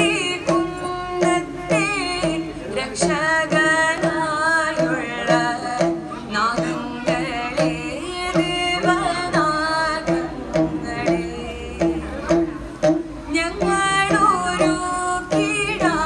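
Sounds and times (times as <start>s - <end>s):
woman singing ornamented notes: 0.0s - 12.3s, 13.2s - 16.0s
plucked long-necked string instrument: 0.0s - 16.0s.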